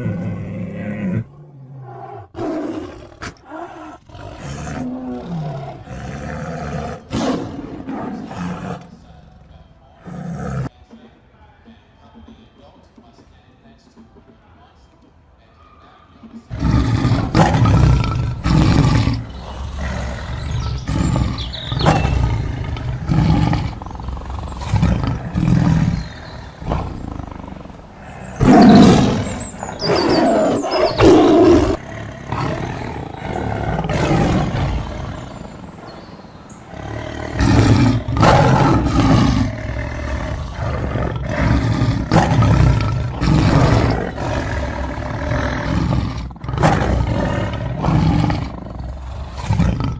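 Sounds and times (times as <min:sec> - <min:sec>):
big cat roaring: 0:00.0 - 0:10.7, 0:16.5 - 0:49.9.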